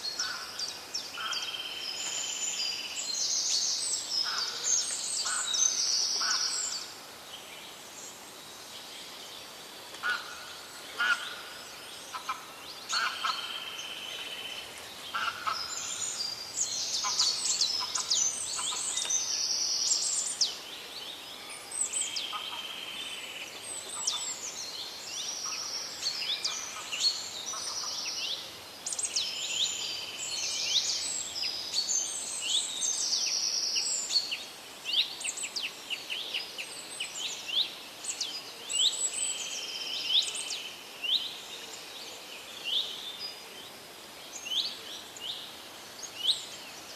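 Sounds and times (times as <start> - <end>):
birds chirping and trilling: 0.0 - 46.9
faint steady hiss: 0.0 - 46.9.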